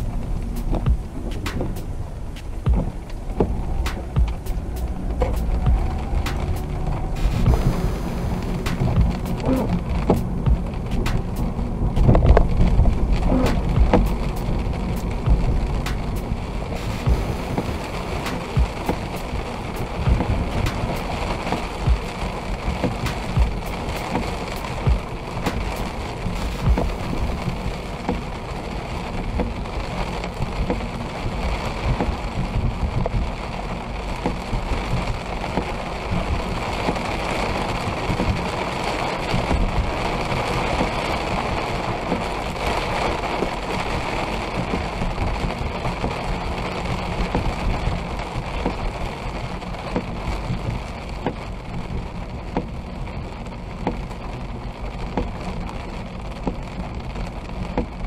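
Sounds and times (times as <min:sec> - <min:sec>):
car driving on wet road: 0:00.0 - 0:58.0
rain on car windshield: 0:00.0 - 0:58.0.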